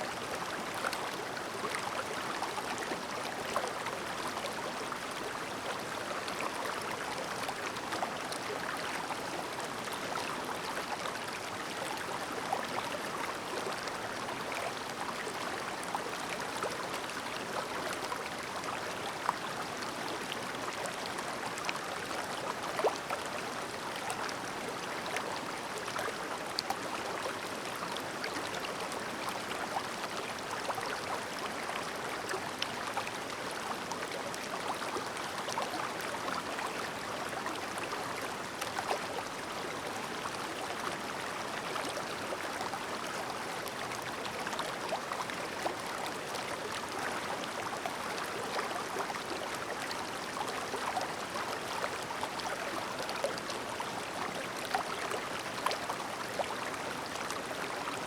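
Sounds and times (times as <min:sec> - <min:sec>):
shallow river stream babbling: 0:00.1 - 0:58.0.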